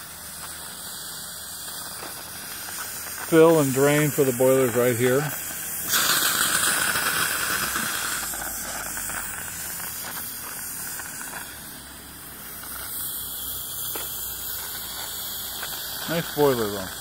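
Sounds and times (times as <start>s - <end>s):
steam hissing from boiler: 0.0s - 17.0s.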